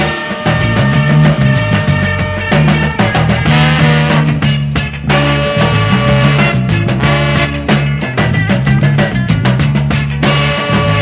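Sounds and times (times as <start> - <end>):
instrumental band music: 0.0 - 11.0.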